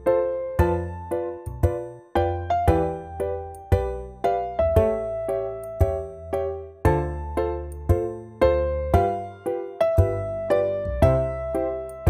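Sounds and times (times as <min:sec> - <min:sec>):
melody of bright struck notes: 0:00.0 - 0:12.0.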